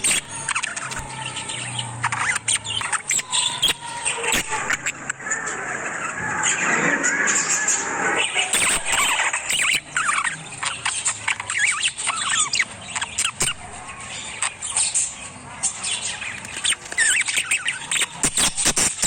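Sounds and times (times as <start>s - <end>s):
parrots squeaking and chirping: 0.0s - 5.6s, 8.1s - 19.0s.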